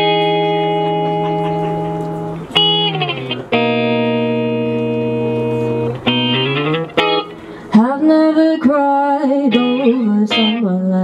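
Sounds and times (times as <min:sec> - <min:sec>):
guitar chords ringing: 0:00.0 - 0:11.0.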